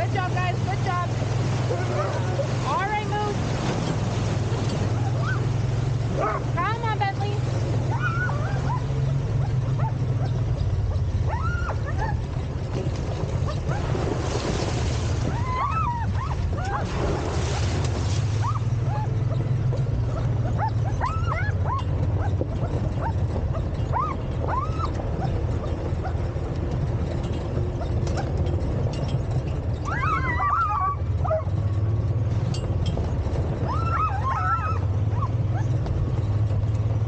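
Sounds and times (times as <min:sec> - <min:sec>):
cart rolling on gravel: 0:00.0 - 0:37.0
dogs yipping and whining: 0:01.5 - 0:02.7, 0:04.6 - 0:06.6, 0:07.6 - 0:14.1, 0:14.9 - 0:37.0.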